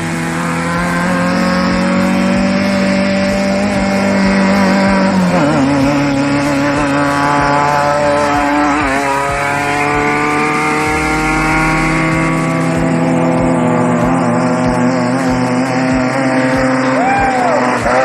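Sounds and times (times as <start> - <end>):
vehicle engine running hard: 0.0 - 18.0.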